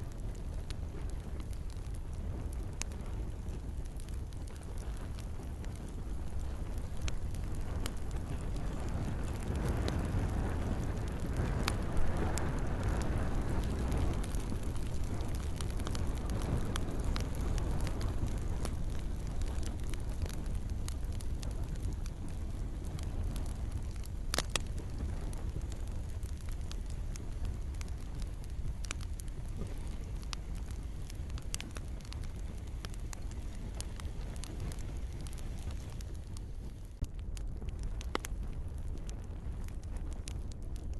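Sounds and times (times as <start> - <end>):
campfire crackling and popping: 0.0 - 40.9
gentle rain: 0.0 - 40.9.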